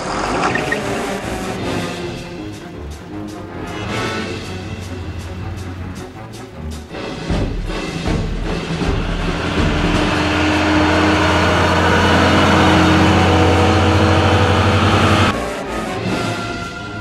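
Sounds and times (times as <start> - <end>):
truck engine running: 0.0 - 15.3.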